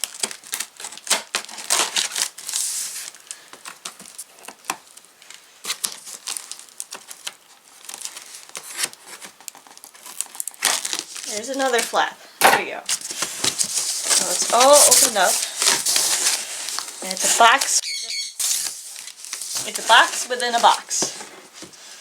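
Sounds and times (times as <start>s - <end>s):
packing tape tearing and crinkling: 0.0s - 12.0s, 12.9s - 22.0s.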